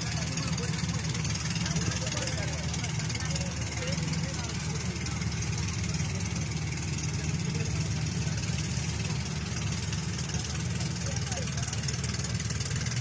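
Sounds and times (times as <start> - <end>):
boat engine throbbing: 0.0 - 13.0.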